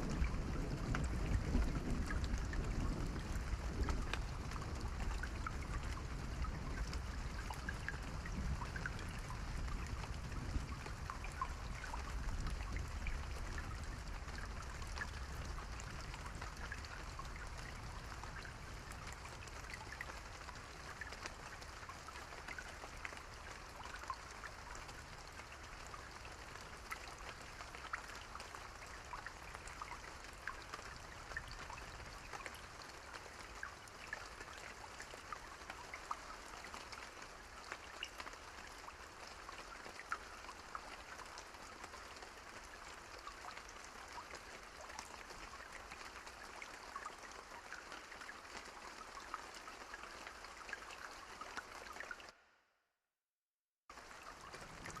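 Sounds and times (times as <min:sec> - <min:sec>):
steady rain falling: 0:00.0 - 0:52.4, 0:53.9 - 0:55.0.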